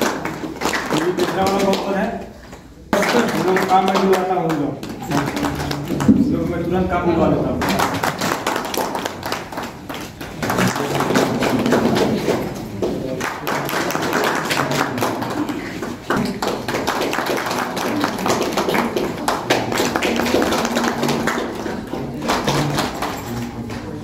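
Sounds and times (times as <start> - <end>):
people clapping: 0.0 - 24.0.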